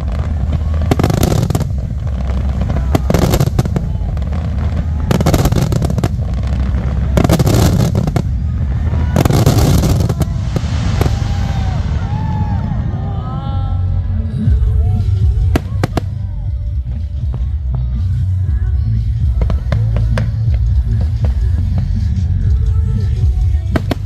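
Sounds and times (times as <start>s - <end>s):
fireworks bursts: 0.0s - 12.8s, 15.0s - 18.1s, 19.1s - 24.0s
steady low rumble: 0.0s - 24.0s.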